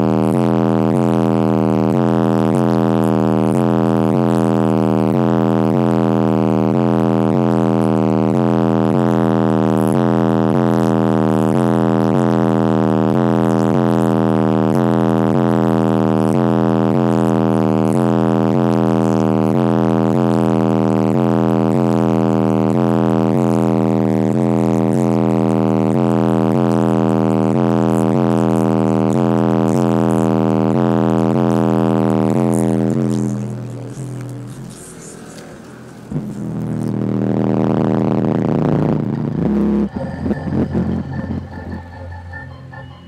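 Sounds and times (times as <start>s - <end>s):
bass-heavy music through car stereo: 0.0s - 43.0s.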